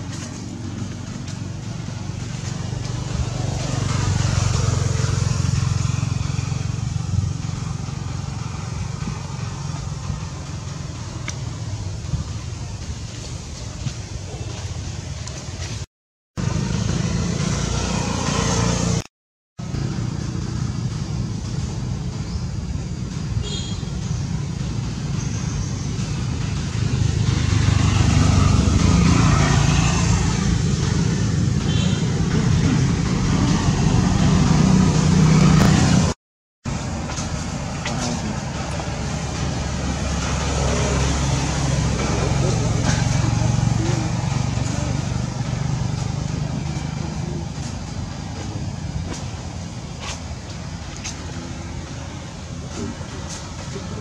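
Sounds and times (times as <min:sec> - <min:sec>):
vehicle engine running: 0:00.0 - 0:15.8, 0:16.4 - 0:54.0.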